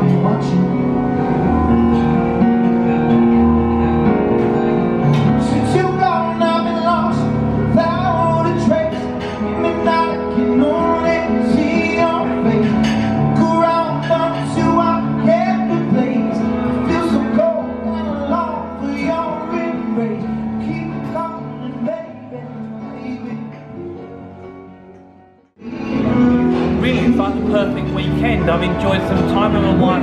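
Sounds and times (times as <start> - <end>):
song with instrumental accompaniment: 0.0 - 30.0.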